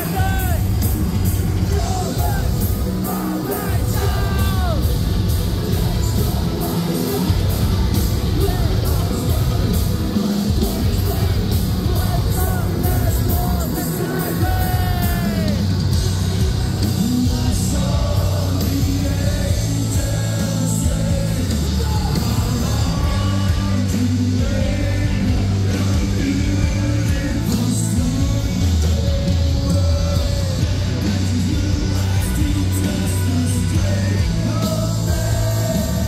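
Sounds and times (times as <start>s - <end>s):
bass guitar: 0.0s - 36.0s
drums: 0.0s - 36.0s
electric guitars: 0.0s - 36.0s
person singing: 0.0s - 36.0s.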